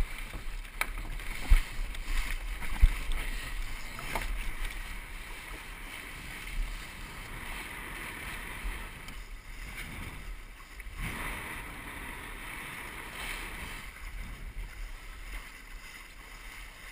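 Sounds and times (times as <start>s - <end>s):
water rushing past hull: 0.0s - 16.9s.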